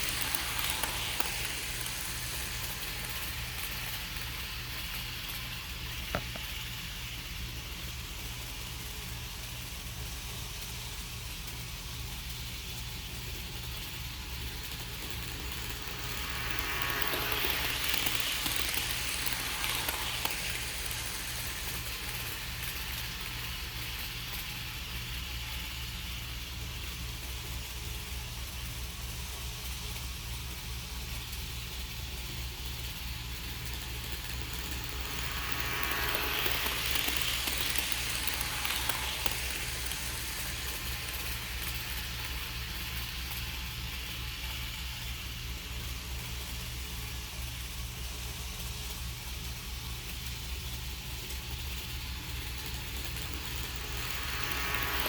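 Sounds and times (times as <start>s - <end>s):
model train whirring: 0.0s - 55.0s.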